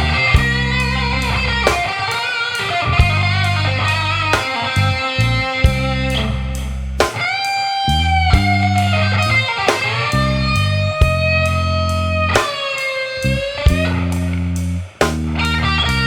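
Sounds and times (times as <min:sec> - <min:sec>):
electric guitar blues solo: 0:00.0 - 0:06.5, 0:07.1 - 0:14.5, 0:15.4 - 0:16.0
backing track with bass and beat: 0:00.0 - 0:16.0.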